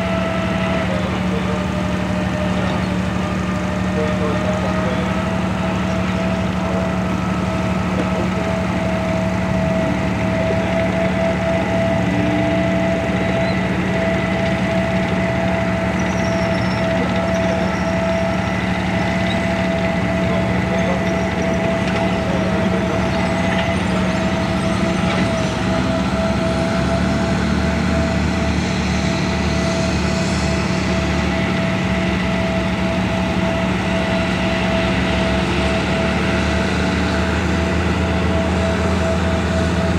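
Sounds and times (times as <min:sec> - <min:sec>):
steady whine: 0:00.0 - 0:39.9
tank engine running: 0:00.0 - 0:39.9.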